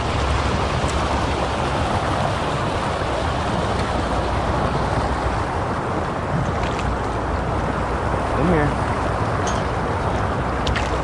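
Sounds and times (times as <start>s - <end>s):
constant low rumble: 0.0s - 11.0s
creek water rushing: 0.0s - 11.0s.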